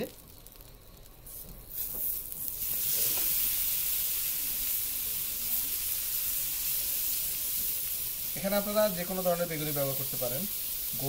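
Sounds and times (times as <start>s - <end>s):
eggplant sizzling in hot oil: 0.0s - 11.0s.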